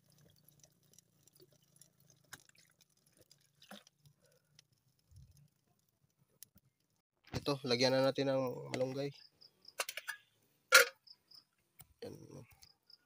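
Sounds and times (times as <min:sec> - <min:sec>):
faint ticks and crackles: 0:00.0 - 0:10.0, 0:11.0 - 0:13.0.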